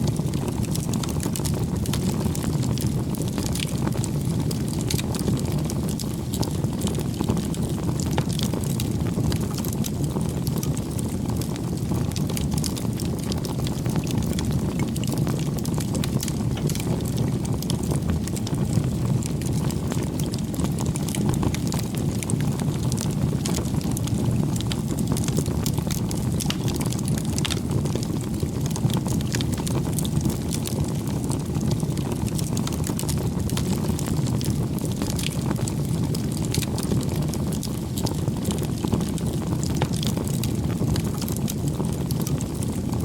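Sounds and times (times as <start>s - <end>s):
bonfire flame rushing: 0.0s - 43.0s
burning wood crackling: 0.0s - 43.0s.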